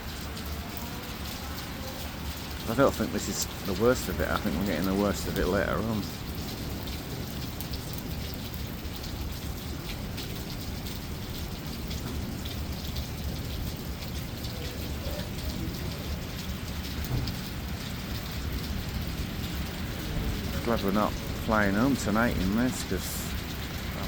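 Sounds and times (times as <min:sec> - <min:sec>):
heavy rain pattering: 0:00.0 - 0:24.0
low continuous rumble: 0:00.1 - 0:24.0.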